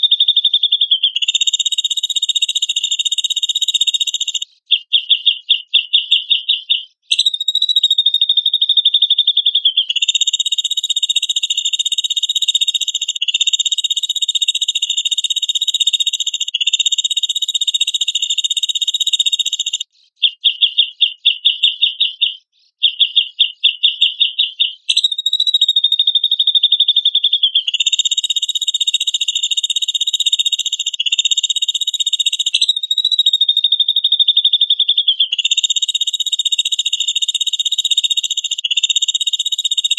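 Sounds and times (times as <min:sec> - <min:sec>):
bird calling: 0:00.7 - 0:39.9.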